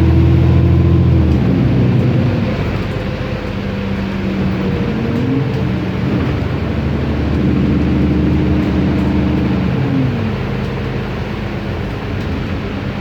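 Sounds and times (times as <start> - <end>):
bus diesel engine: 0.0 - 13.0
road noise: 0.0 - 13.0.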